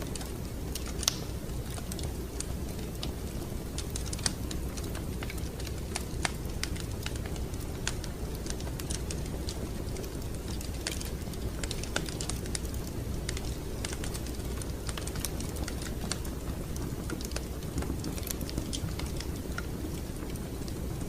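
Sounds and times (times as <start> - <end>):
low rumble of flame: 0.0 - 21.0
wood fire crackling: 0.0 - 21.0.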